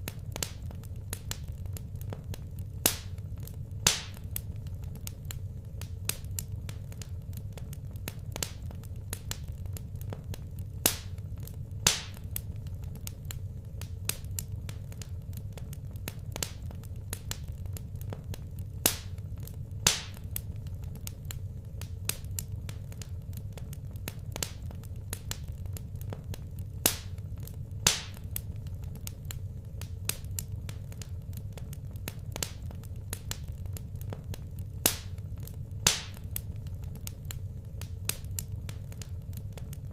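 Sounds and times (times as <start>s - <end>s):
steady low hum: 0.0s - 39.9s
wood fire crackling: 0.0s - 39.9s.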